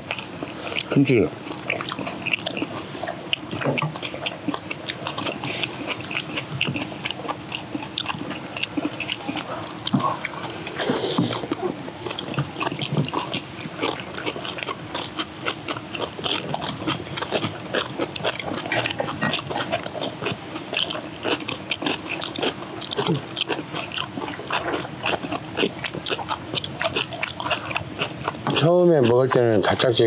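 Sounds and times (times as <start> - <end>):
people chewing food: 0.0 - 30.0.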